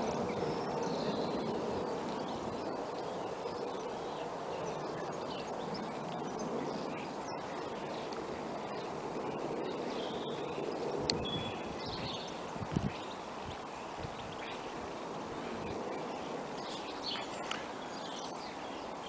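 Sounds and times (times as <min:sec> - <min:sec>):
distant jet engine rumble: 0:00.0 - 0:19.0.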